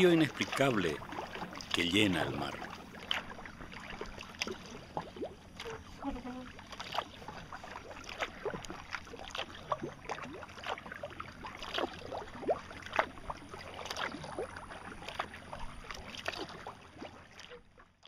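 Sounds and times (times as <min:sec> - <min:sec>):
paddle blades splashing: 0:00.0 - 0:18.0.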